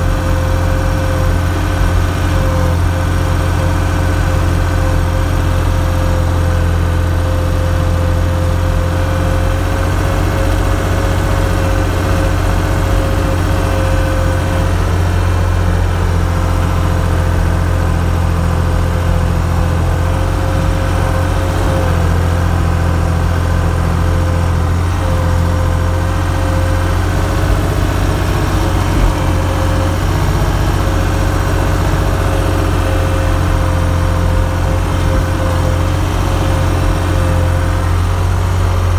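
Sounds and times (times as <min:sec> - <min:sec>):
engine running steadily: 0:00.0 - 0:38.9
high whine: 0:00.0 - 0:38.9.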